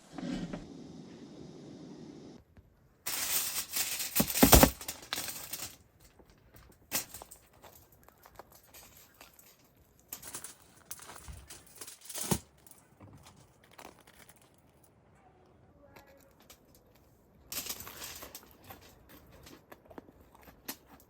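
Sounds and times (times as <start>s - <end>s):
rustling and crinkling handling: 3.1s - 15.0s, 15.8s - 21.0s.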